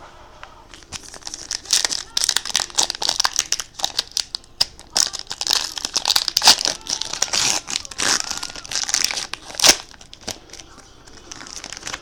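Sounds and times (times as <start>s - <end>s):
plastic wrapping crinkling and tearing: 0.7s - 12.0s.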